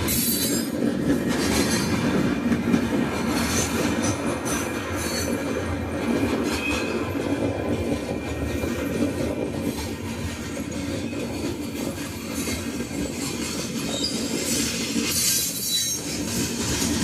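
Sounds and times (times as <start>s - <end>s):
train wheels rumbling and clacking: 0.0s - 17.0s.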